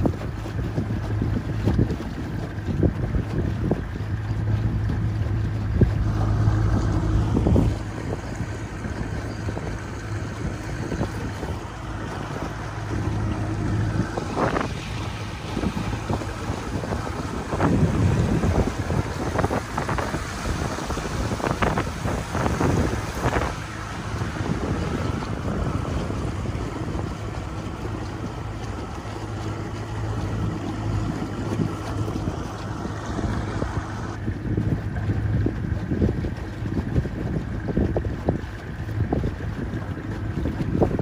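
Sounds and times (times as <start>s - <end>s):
boat motor humming: 0.0s - 41.0s
wind on microphone: 0.0s - 41.0s.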